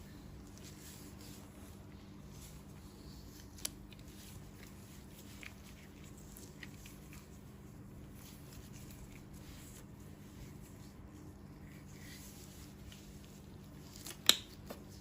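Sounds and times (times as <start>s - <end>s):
soft rustles: 0.0s - 15.0s
steady low hum: 0.0s - 15.0s.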